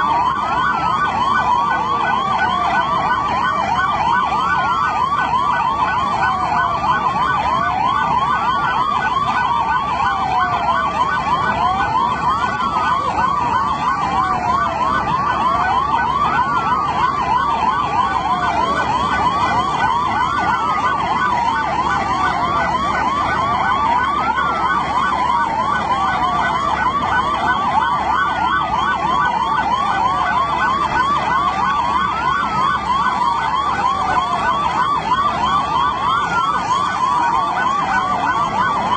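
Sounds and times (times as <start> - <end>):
siren wailing: 0.0 - 38.9
siren yelping: 0.0 - 38.9.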